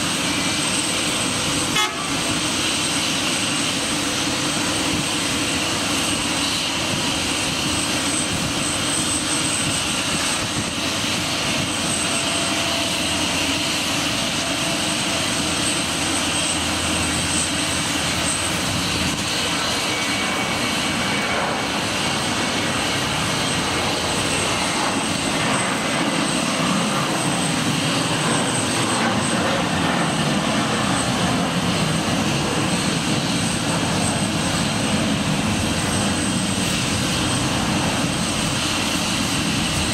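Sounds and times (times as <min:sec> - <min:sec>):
high engine whine: 0:00.0 - 0:39.9
jet engines roaring: 0:00.0 - 0:39.9.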